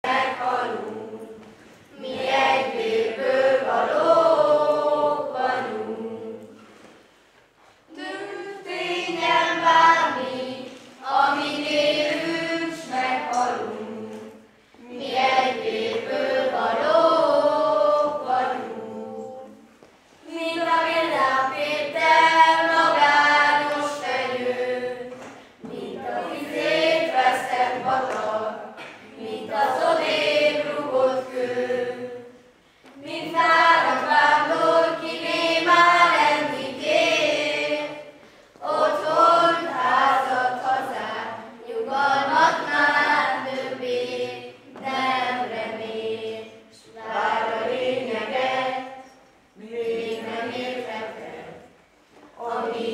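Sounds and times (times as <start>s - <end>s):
children singing unaccompanied: 0.0s - 6.8s, 7.9s - 52.9s.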